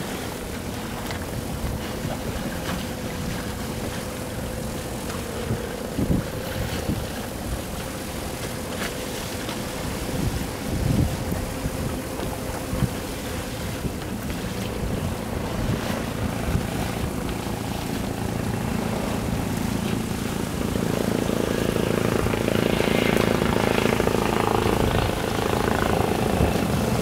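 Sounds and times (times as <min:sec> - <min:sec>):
helicopter rotor and engine: 0:00.0 - 0:27.0.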